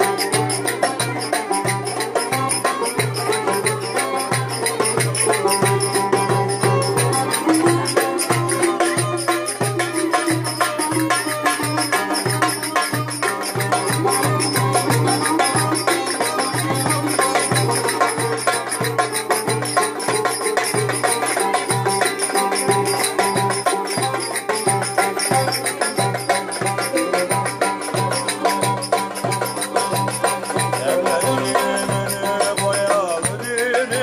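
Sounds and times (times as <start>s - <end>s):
folk dance tune on violin: 0.0s - 34.0s
long-necked lute: 0.0s - 34.0s.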